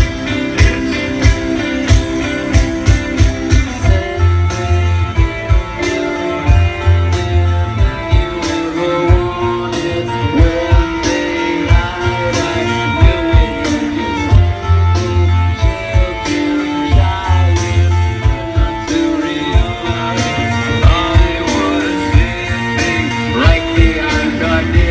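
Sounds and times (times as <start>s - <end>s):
rock band playing live: 0.0s - 24.9s.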